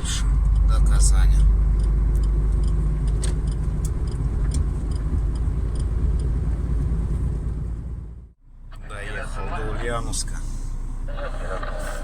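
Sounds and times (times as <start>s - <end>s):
road noise: 0.0s - 12.0s
truck diesel engine drone: 0.0s - 12.0s.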